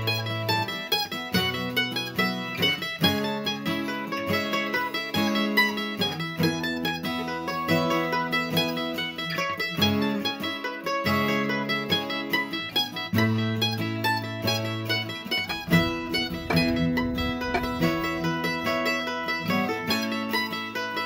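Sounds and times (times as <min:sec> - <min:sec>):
acoustic plucked-string instrumental: 0:00.0 - 0:21.0.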